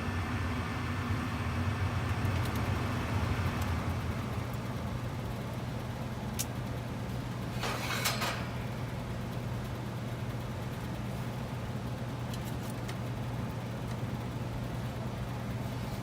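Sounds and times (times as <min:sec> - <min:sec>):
furnace humming: 0:00.0 - 0:16.0.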